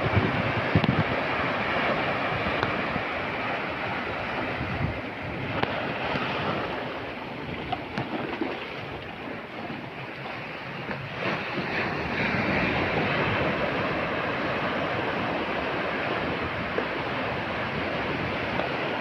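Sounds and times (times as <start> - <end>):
surf breaking on a beach: 0.0 - 19.0
wind buffeting microphone: 0.0 - 19.0.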